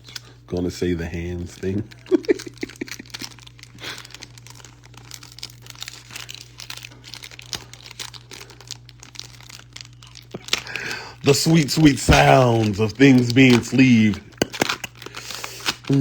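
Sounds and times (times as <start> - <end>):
steady low hum: 0.0 - 16.0
plastic crinkling and rustling: 1.2 - 16.0.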